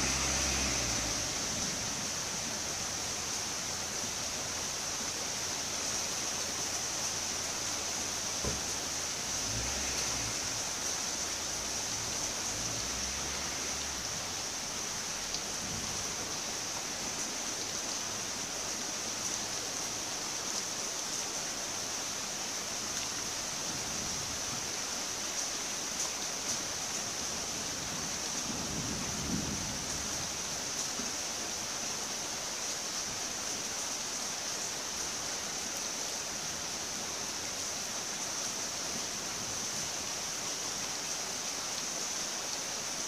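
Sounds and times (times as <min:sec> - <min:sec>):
steady rain hiss: 0:00.0 - 0:43.0.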